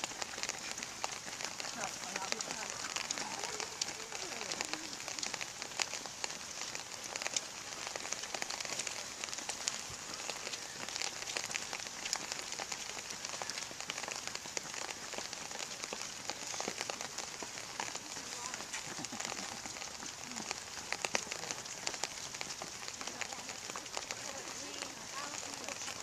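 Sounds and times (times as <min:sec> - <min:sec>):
rain drops pattering on surface: 0:00.0 - 0:26.0.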